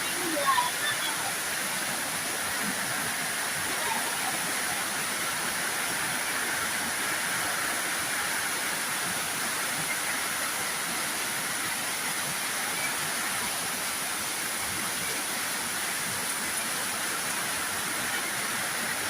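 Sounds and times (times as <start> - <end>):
rushing floodwater hiss: 0.0 - 19.0.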